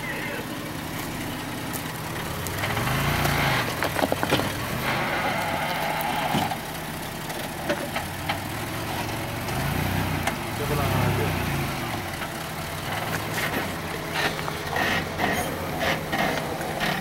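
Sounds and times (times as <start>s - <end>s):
suv engine running at low revs: 0.0s - 17.0s.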